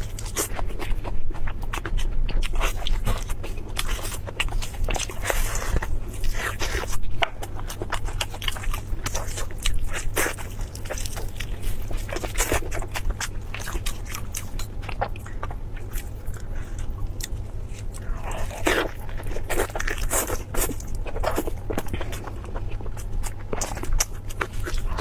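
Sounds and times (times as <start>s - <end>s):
crunchy chewing of crispy food: 0.0s - 25.0s.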